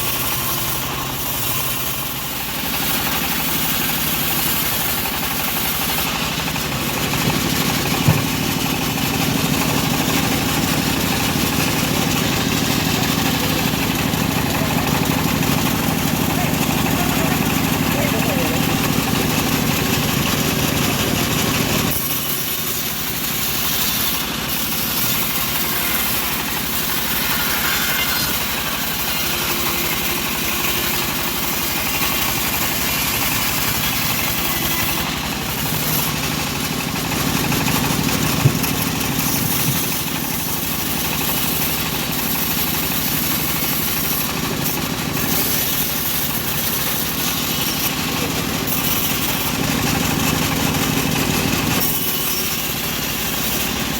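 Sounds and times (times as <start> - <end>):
bandsaw sawmill engine sawing log: 0.0 - 53.9.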